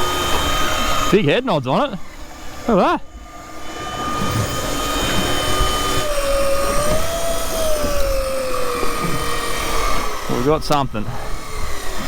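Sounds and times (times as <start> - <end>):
electric fishing reel motor whine: 0.0 - 1.2, 2.1 - 12.0.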